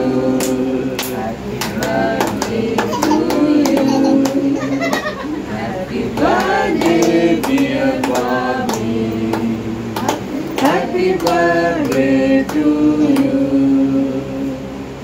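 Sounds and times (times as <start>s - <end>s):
group singing a celebration song: 0.0s - 15.0s.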